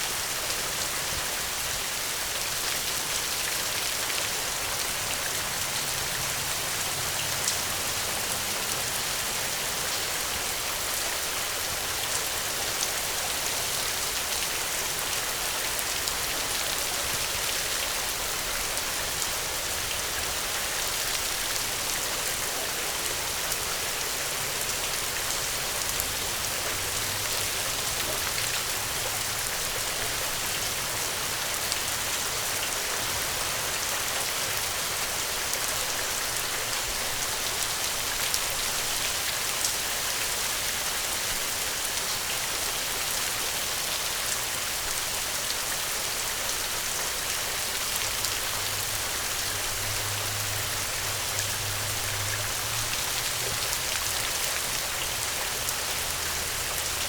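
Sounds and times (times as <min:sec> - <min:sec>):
rain hissing on a surface: 0:00.0 - 0:57.0.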